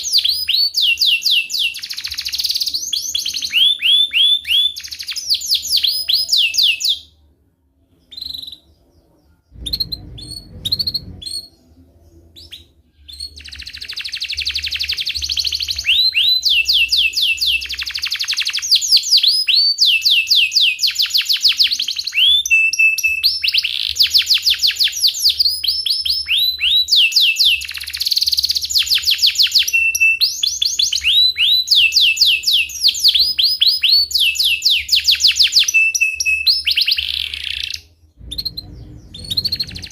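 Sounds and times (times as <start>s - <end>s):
canary singing trills: 0.0s - 7.2s, 7.9s - 39.9s.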